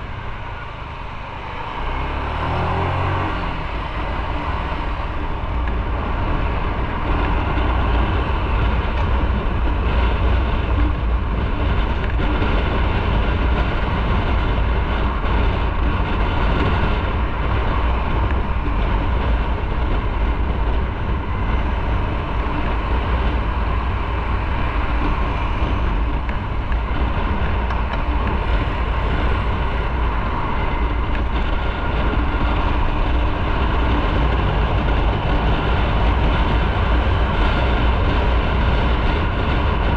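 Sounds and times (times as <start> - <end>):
motorcycle engine: 0.0 - 39.9
wind rush on microphone: 0.0 - 39.9.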